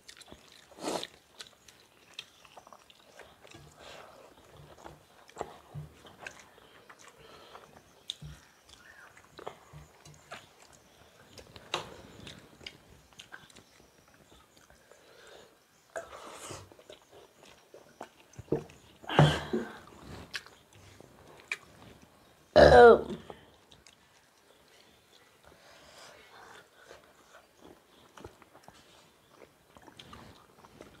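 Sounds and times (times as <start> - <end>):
chewing and mouth smacks: 0.0 - 15.0, 15.9 - 19.1, 19.8 - 22.3, 23.3 - 25.6, 26.4 - 31.0.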